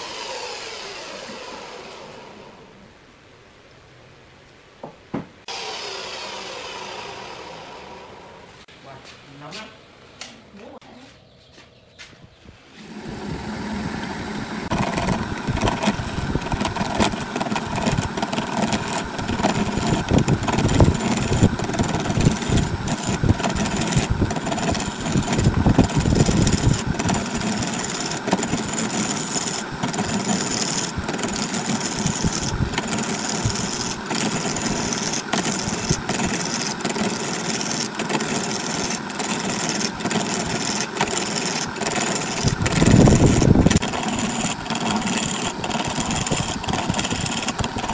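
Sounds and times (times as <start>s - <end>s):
turning tool cutting wood: 0.0s - 2.7s, 5.5s - 8.4s, 12.8s - 47.9s
wood lathe motor running: 0.0s - 2.7s, 5.5s - 8.5s, 12.8s - 47.9s.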